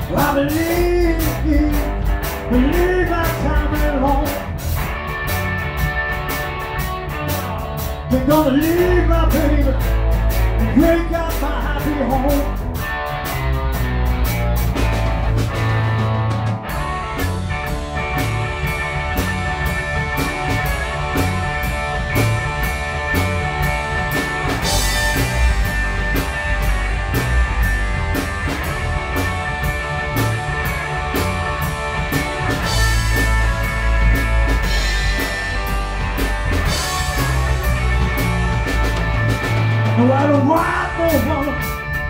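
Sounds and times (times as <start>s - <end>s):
drums steady beat: 0.0s - 42.0s
electric guitar: 0.0s - 42.0s.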